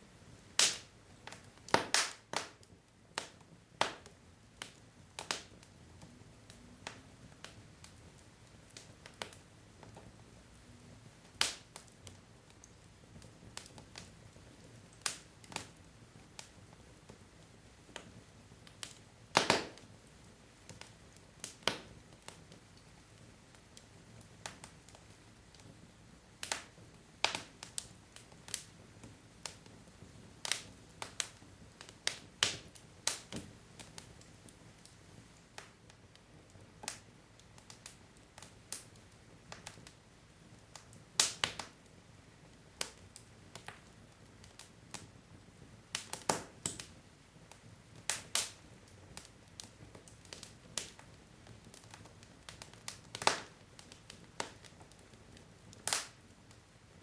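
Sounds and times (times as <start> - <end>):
low hiss of fire: 0.0 - 57.0
logs crackling and popping: 0.4 - 25.8, 26.4 - 57.0.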